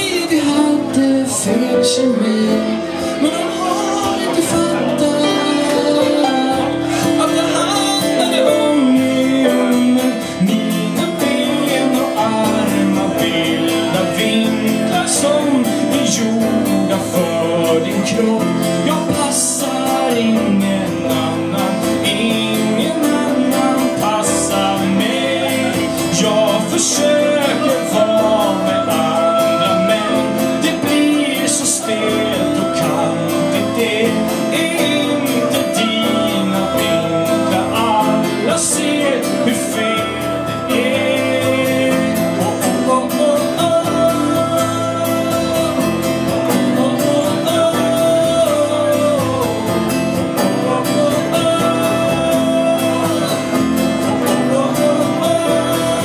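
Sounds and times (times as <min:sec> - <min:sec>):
person singing: 0:00.0 - 0:56.0
strummed acoustic guitar: 0:00.0 - 0:56.0.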